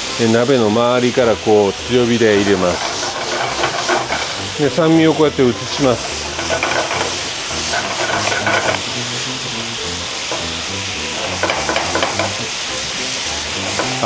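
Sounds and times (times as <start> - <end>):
meat sizzling in frying pan: 0.0 - 14.0
metal tongs scraping: 1.5 - 14.0.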